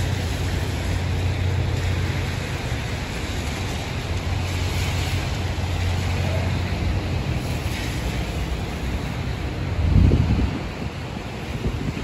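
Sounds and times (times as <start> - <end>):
city traffic rumble: 0.0 - 12.0
tyre hiss on wet road: 0.0 - 12.0.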